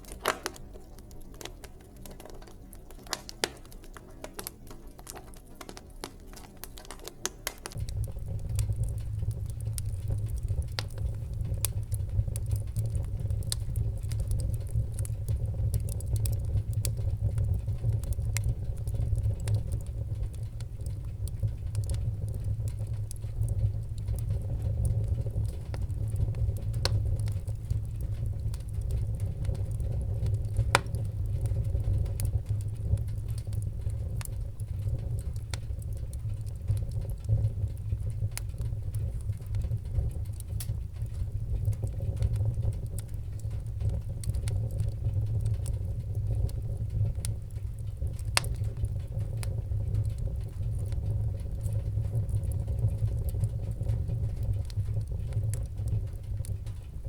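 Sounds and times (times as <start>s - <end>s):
wood fire crackling and popping: 0.0s - 57.0s
steady low rumble: 7.7s - 57.0s.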